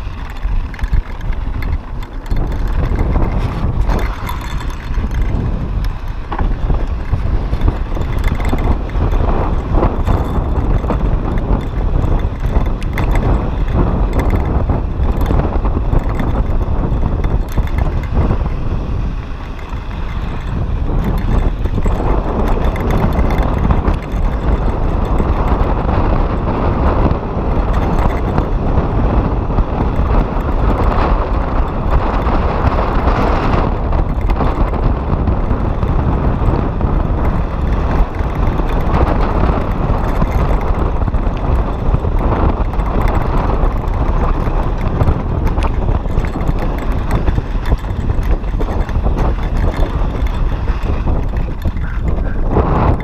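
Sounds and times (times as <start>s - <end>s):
bike and stones clattering: 0.0s - 53.0s
tyres rumbling on gravel: 0.0s - 53.0s
wind buffeting microphone: 0.0s - 53.0s.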